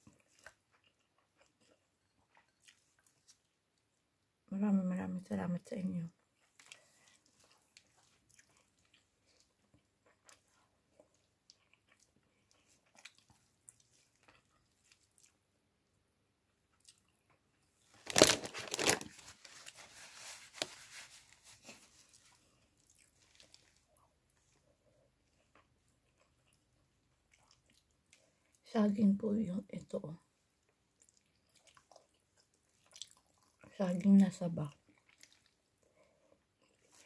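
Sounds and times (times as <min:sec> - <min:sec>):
chewing and fingers in rice: 0:00.0 - 0:04.3, 0:06.1 - 0:28.6, 0:30.3 - 0:37.0.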